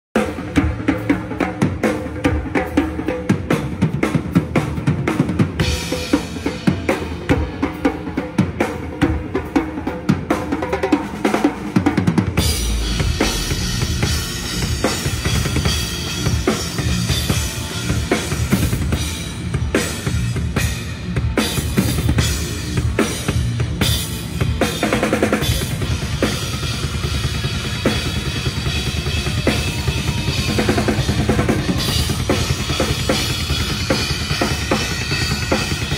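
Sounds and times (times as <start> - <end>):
fast heavy metal drumming: 0.2 - 35.9.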